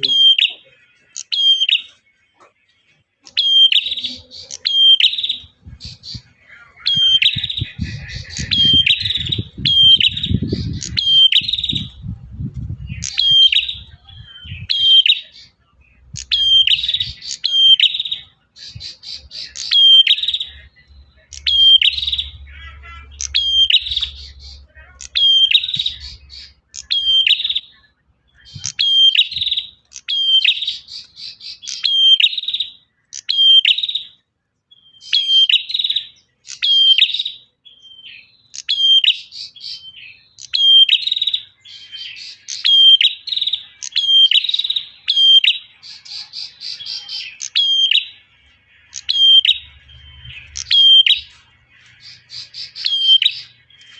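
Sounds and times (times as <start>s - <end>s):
bird singing high sharp notes: 0.0s - 53.9s.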